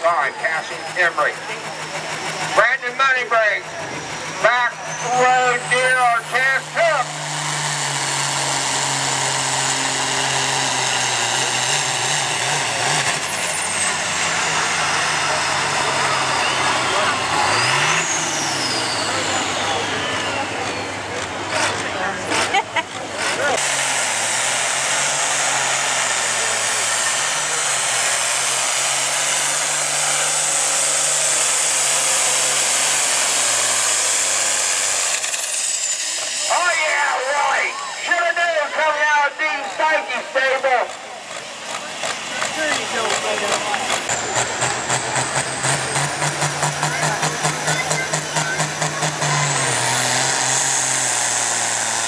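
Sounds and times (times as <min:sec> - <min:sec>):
tractor diesel engine running: 0:00.0 - 0:52.0
turbo and exhaust rush: 0:00.0 - 0:52.0.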